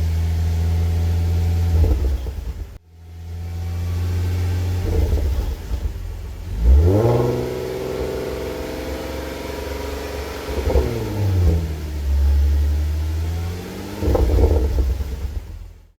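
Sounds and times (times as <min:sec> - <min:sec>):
car engine revving: 0:00.0 - 0:15.8
exhaust crackles: 0:00.0 - 0:15.9.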